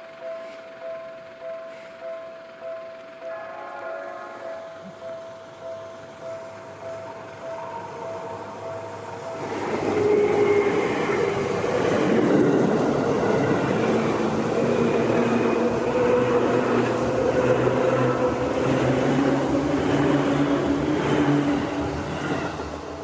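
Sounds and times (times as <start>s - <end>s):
level-crossing bell ringing: 0.0s - 23.0s
wheel-on-rail noise: 0.0s - 23.0s
low motor hum: 4.3s - 23.0s.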